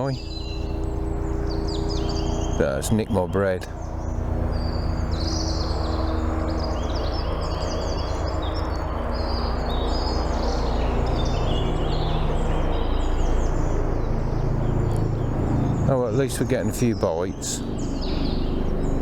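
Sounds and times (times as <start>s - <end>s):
low engine drone: 0.0s - 19.0s
songbirds chirping: 0.0s - 19.0s.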